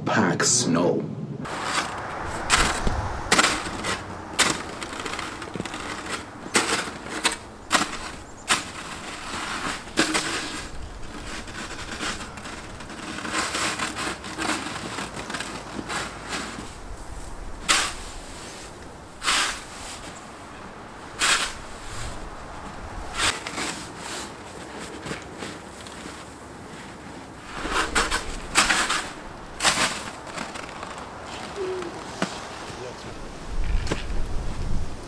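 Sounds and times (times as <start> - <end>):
shovel scraping snow: 1.5 - 20.3, 21.0 - 32.4
footsteps crunching in snow: 1.5 - 35.0.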